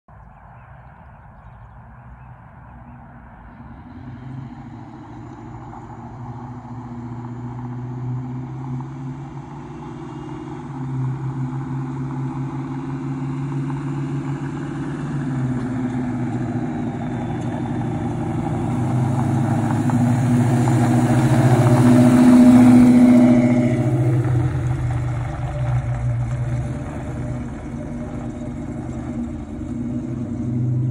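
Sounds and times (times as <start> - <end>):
car engine driving past: 0.2 - 30.9.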